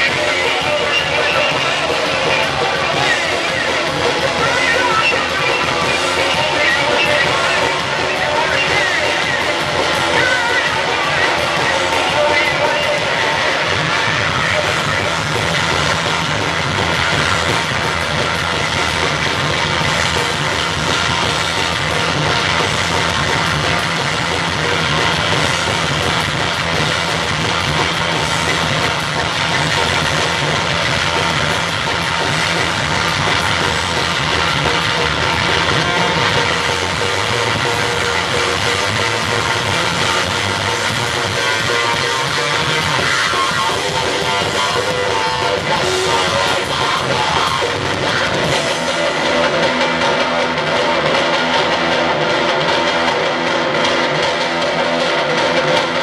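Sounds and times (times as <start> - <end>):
drum kit: 0.0 - 56.0
electric guitar: 0.0 - 56.0
rock band playing loud: 0.0 - 56.0.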